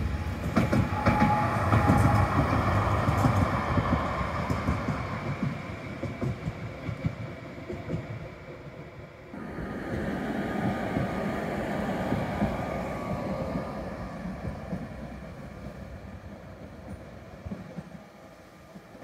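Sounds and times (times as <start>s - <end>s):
tram running past: 0.0s - 19.0s.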